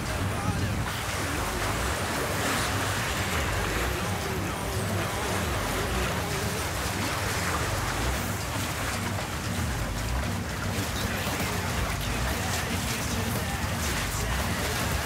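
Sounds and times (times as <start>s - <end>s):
seawater sloshing against concrete: 0.0s - 15.0s.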